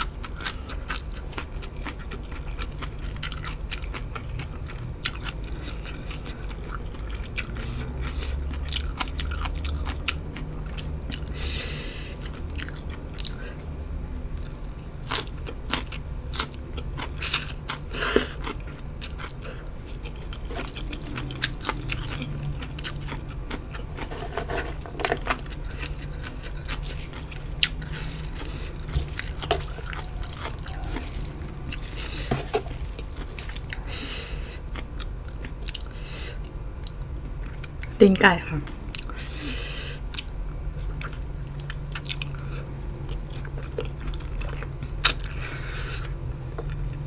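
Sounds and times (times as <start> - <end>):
chewing with crunching bites: 0.0 - 38.0, 38.6 - 47.0
steady low hum: 0.0 - 47.0.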